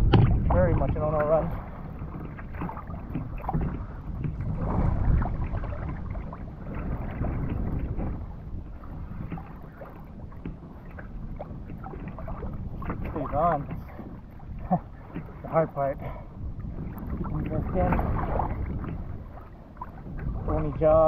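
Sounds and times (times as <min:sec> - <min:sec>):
water sloshing against kayak hull: 0:00.0 - 0:21.0
wind buffeting microphone: 0:00.0 - 0:21.0.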